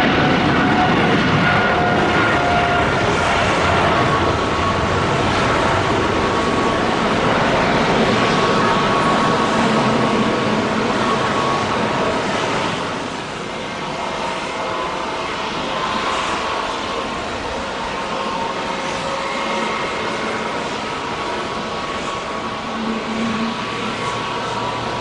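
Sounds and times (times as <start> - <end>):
jet engines running: 0.0 - 25.0
whining fan tones: 0.0 - 25.0.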